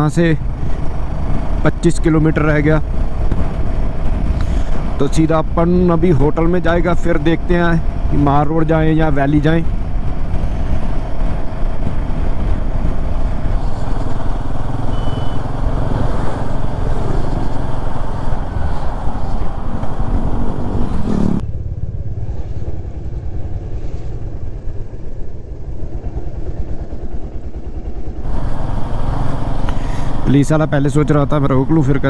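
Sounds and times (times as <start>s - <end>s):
motorcycle engine cruising: 0.0s - 32.0s
road noise: 0.0s - 32.0s
wind noise: 0.0s - 32.0s.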